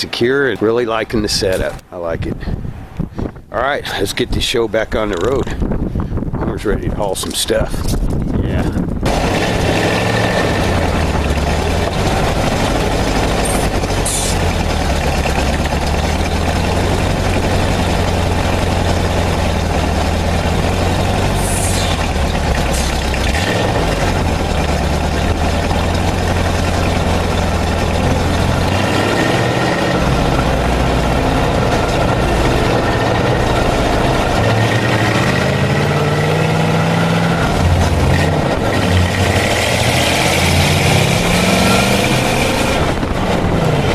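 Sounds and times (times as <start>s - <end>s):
truck engine driving off: 8.7s - 43.9s.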